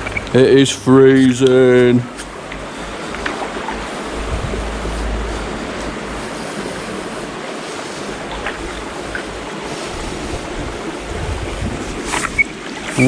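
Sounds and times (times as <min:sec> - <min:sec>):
river rushing: 0:00.0 - 0:13.0
wind rumble on microphone: 0:01.8 - 0:13.0.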